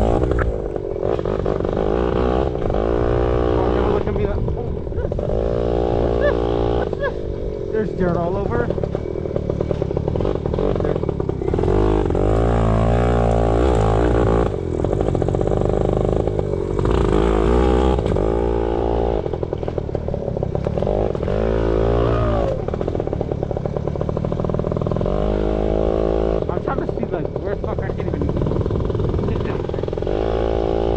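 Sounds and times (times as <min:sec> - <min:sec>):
two-stroke motorbike engine revving: 0:00.0 - 0:30.9.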